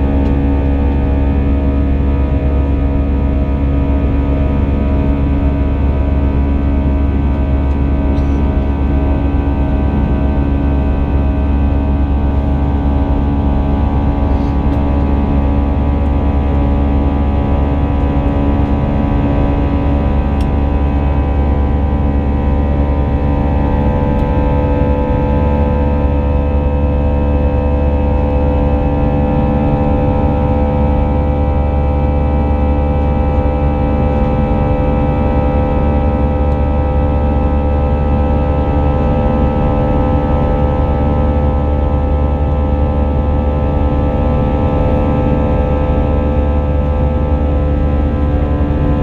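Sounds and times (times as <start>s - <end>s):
jet engine cabin drone: 0.0s - 49.0s.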